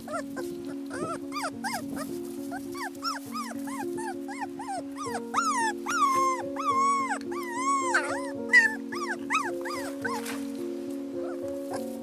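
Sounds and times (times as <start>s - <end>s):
puppy whining and crying: 0.0s - 10.5s, 11.2s - 12.0s
background music with held notes: 0.0s - 12.0s.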